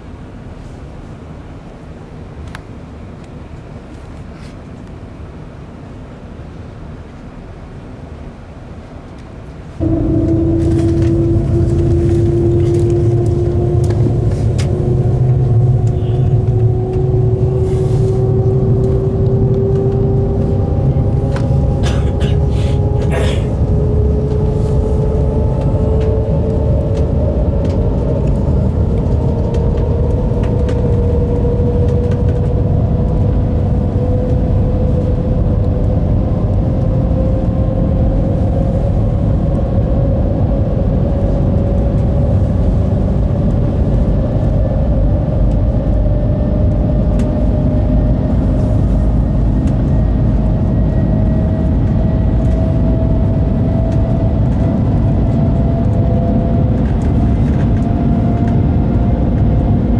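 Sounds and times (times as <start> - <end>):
train cabin low rumble: 0.0 - 59.9
whine rising in pitch: 9.7 - 59.9.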